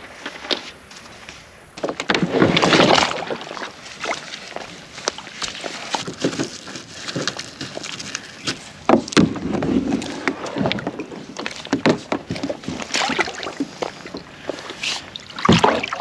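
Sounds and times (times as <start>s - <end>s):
water splashing around kayak: 1.8s - 16.0s.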